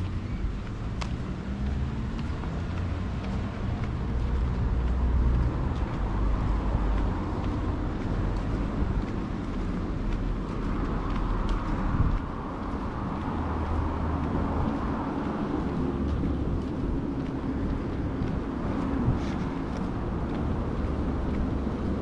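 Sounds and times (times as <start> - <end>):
cars passing: 0.0 - 22.0
steady low rumble: 0.0 - 22.0.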